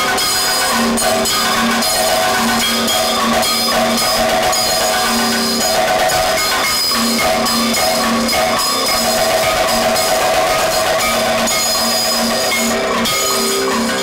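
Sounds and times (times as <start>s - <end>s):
drums in fast dense strokes: 0.0s - 14.0s
held pitched notes: 0.0s - 14.0s
ringing cymbals: 0.0s - 14.0s.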